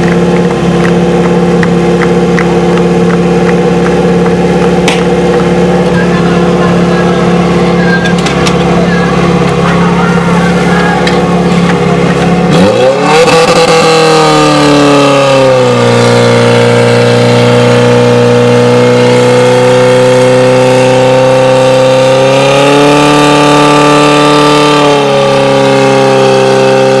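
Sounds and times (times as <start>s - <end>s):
fire pump engine revving: 0.0s - 27.0s.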